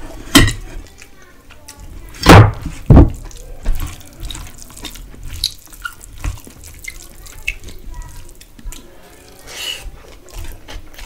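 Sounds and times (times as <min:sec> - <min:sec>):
fingers squishing wet food: 0:00.8 - 0:11.0.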